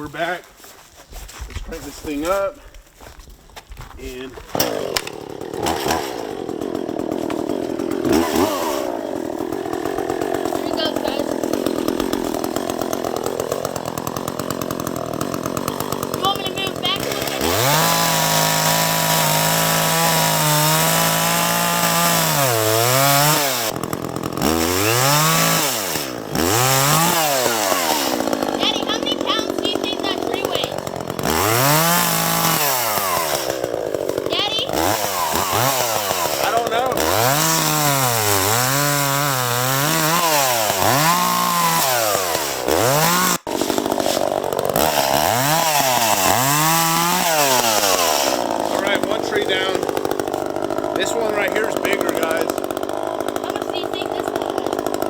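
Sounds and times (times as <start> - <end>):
chainsaw revving: 4.0 - 55.0.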